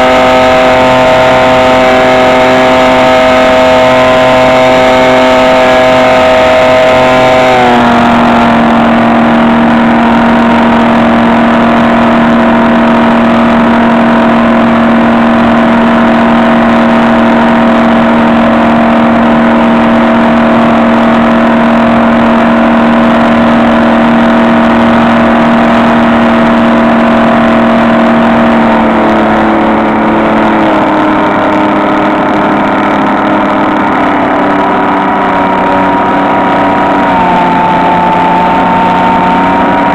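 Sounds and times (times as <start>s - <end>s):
model plane motor whining: 0.0s - 39.9s.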